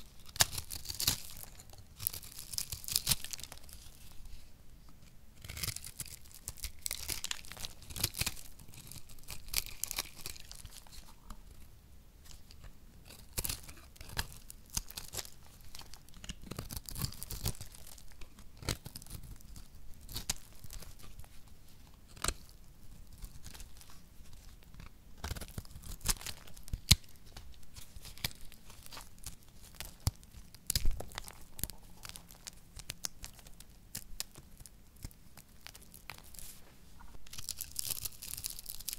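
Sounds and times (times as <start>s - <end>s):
soap cracking and snapping: 0.0s - 3.8s, 5.4s - 11.1s, 12.3s - 21.2s, 22.1s - 36.4s, 37.3s - 38.9s.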